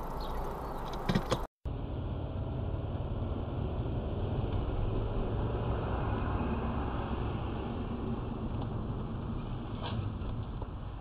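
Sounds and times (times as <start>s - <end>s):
car engine and tyre noise: 0.0s - 11.0s
street noise: 0.0s - 11.0s.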